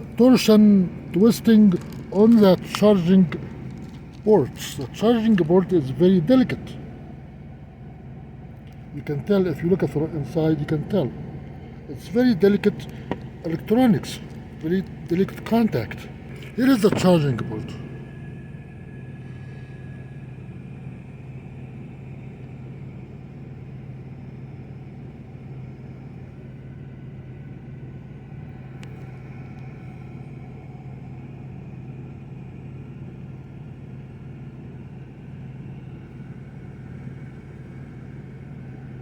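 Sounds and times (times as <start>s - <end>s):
engine idling hum: 0.0s - 39.0s.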